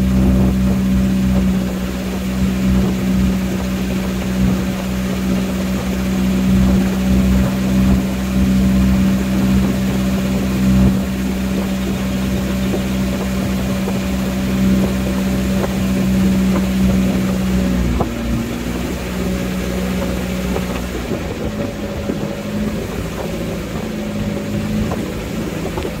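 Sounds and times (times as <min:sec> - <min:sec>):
boat engine running: 0:00.0 - 0:26.0
water hissing along hull: 0:00.0 - 0:26.0.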